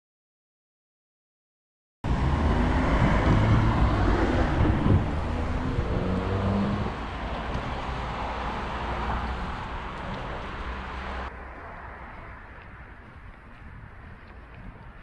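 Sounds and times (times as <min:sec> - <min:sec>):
wind and road rumble: 0:02.0 - 0:15.0.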